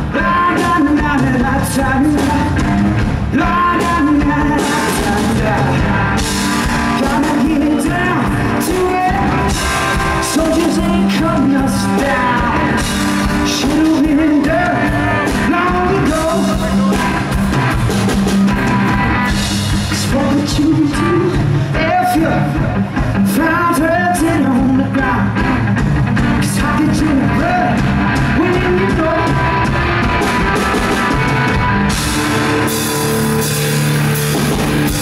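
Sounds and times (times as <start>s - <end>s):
person singing: 0.0s - 17.8s, 18.9s - 25.5s, 26.3s - 31.6s
drum kit: 0.0s - 35.0s
electric guitar: 0.0s - 35.0s.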